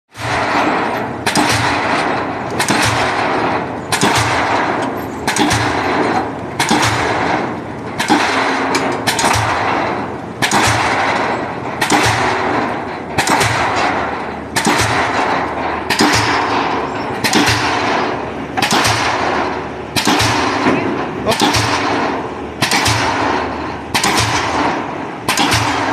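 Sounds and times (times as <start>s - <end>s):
pile driver hammer clanging: 0.1s - 25.9s
machine hum: 0.2s - 25.9s.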